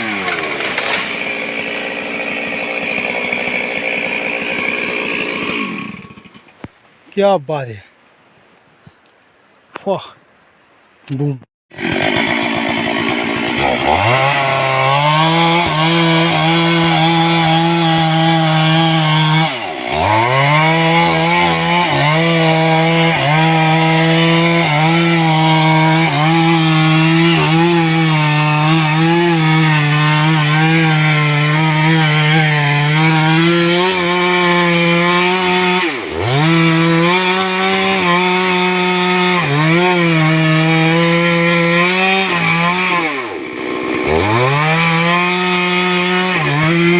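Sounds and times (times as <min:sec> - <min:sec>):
chainsaw cutting into tree: 0:00.0 - 0:06.6, 0:11.7 - 0:46.9.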